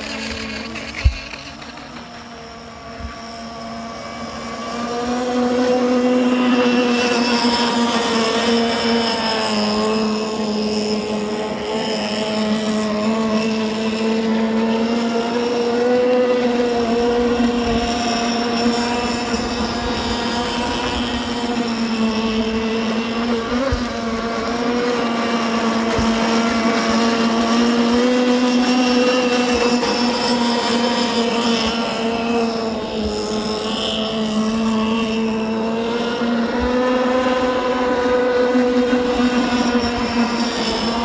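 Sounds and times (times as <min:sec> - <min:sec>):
rc boat engine droning: 0:00.0 - 0:41.0.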